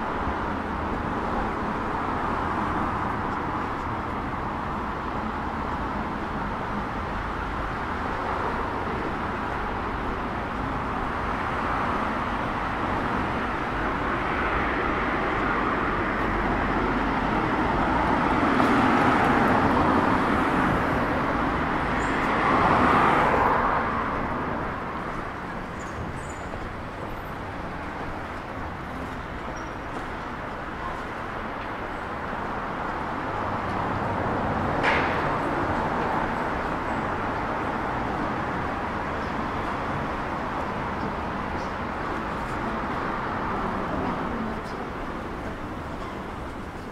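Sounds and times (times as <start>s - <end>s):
cars driving past: 0.0s - 46.9s.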